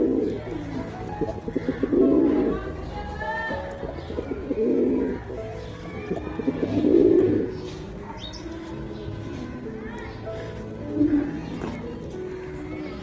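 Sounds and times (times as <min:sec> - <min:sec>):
background music: 0:00.0 - 0:13.0
pigeon cooing: 0:00.0 - 0:13.0.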